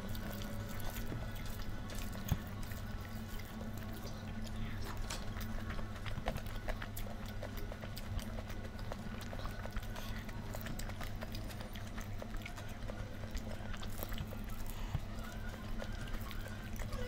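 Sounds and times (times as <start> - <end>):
person chewing food: 0.0 - 17.0
steady low hum: 0.0 - 17.0.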